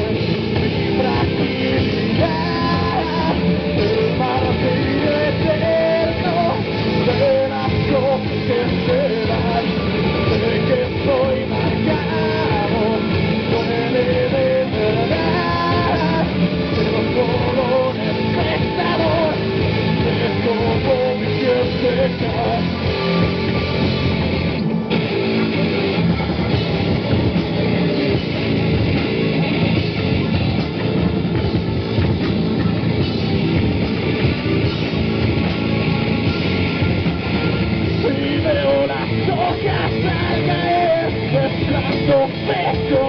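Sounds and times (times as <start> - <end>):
heavy rock band playing: 0.0 - 43.0
wavering lead melody: 0.0 - 43.0.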